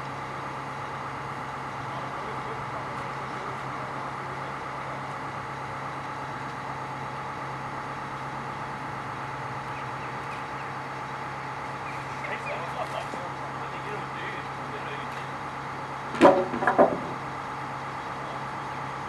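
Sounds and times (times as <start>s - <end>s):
heavy vehicle engine humming: 0.0s - 19.0s.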